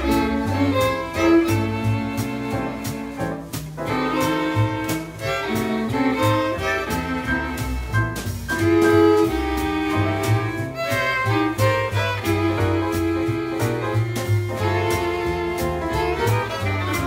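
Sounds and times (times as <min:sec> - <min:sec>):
double bass: 0:00.0 - 0:17.0
drums keeping a steady beat: 0:00.0 - 0:17.0
violins and viola bowing melody: 0:00.0 - 0:17.0.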